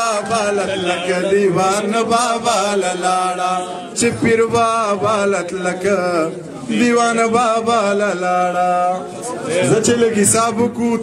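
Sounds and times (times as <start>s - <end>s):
man chanting poetry into microphone: 0.0s - 11.0s.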